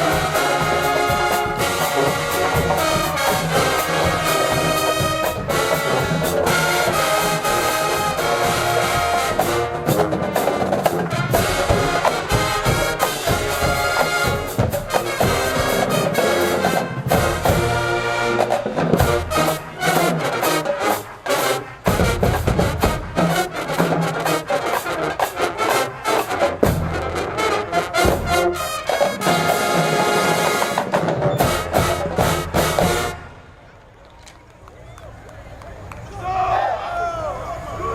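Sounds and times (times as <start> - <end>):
drums: 0.0 - 33.6
marching band brass music: 0.0 - 33.9.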